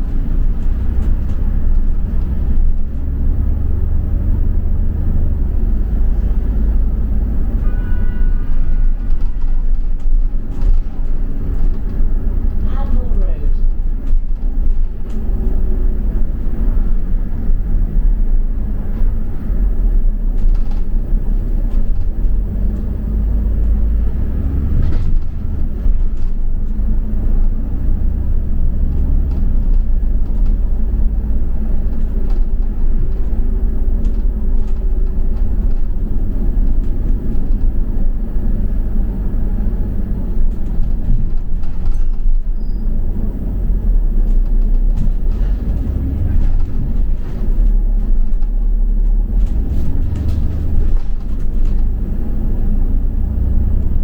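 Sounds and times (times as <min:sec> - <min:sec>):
bus body rattles and knocks: 0:00.0 - 0:54.0
bus engine and road rumble: 0:00.0 - 0:54.0.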